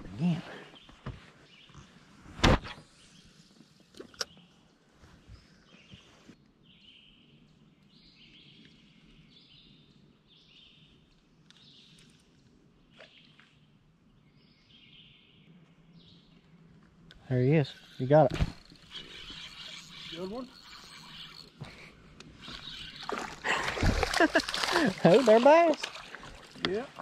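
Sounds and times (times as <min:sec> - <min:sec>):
faint songbird singing: 0:00.1 - 0:02.1, 0:02.8 - 0:12.2, 0:12.8 - 0:26.8.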